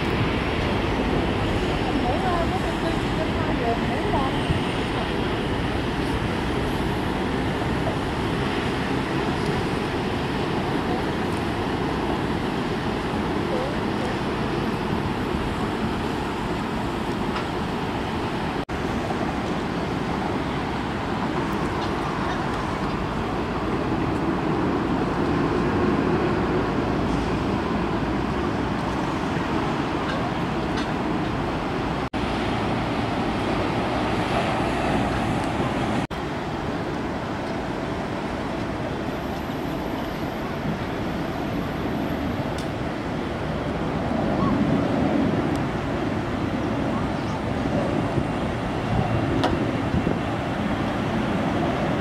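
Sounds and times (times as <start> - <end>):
jet engines taxiing distant: 0.0 - 52.0.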